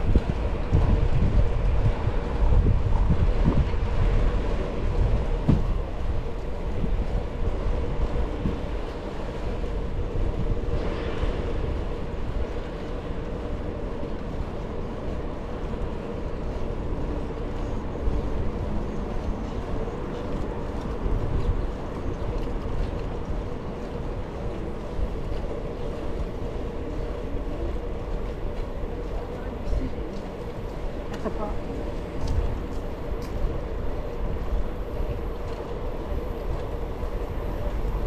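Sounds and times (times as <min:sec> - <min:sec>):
bicycle rolling and wind noise: 0:00.0 - 0:38.0.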